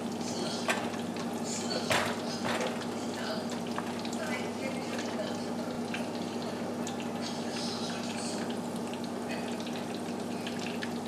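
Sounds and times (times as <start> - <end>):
oil bubbling and crackling: 0.0 - 11.0.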